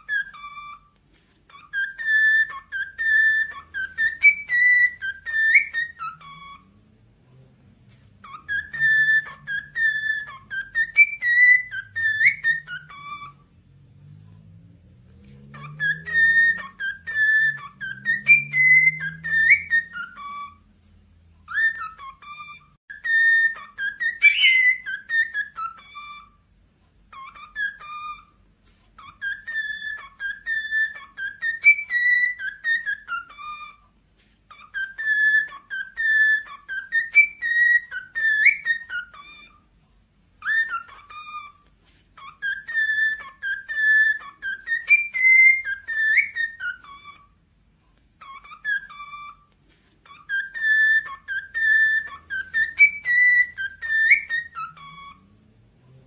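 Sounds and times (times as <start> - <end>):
cockatiel whistling a tune: 0.0 - 14.5, 15.1 - 56.0.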